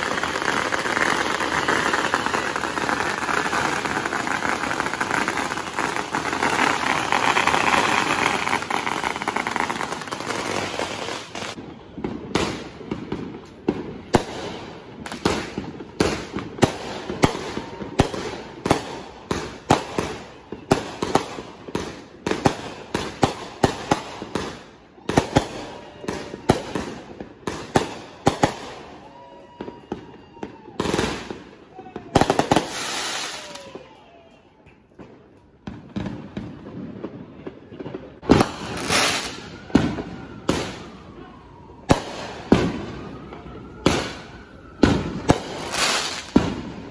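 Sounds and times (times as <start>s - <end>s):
fireworks sharp bangs: 0.0s - 28.9s, 35.0s - 46.9s.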